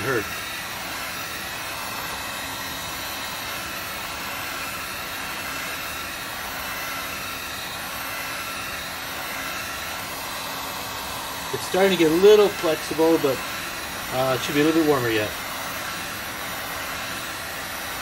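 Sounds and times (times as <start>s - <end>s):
faint motor hum: 0.0s - 18.0s
heat gun blowing air: 0.0s - 18.0s.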